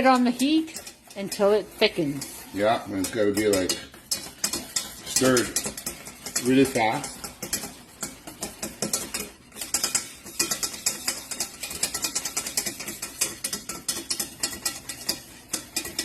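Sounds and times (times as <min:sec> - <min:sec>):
utensil scraping against a pot: 0:00.0 - 0:16.0.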